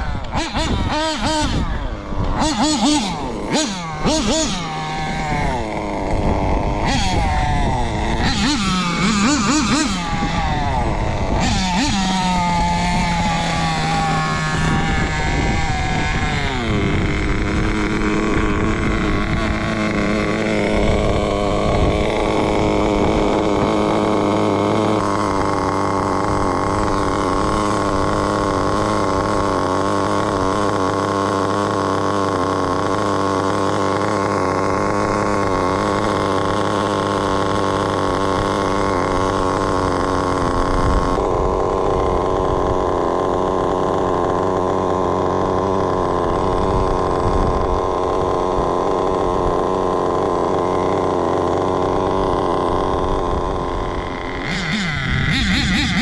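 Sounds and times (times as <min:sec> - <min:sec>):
rc car engine running: 0:00.0 - 0:56.0.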